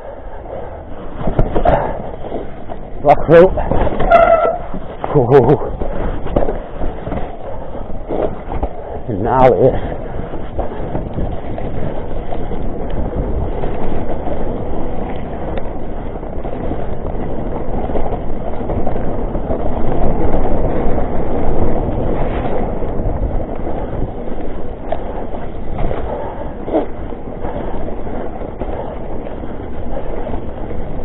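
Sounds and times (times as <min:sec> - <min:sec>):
mountain bike rattling down trail: 0:00.0 - 0:31.0.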